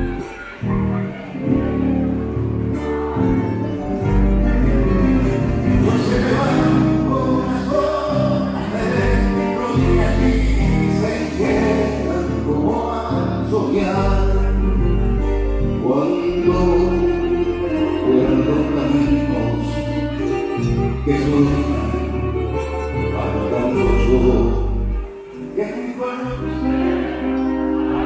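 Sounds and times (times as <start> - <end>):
live band playing: 0.0 - 28.0
person singing: 0.0 - 28.0.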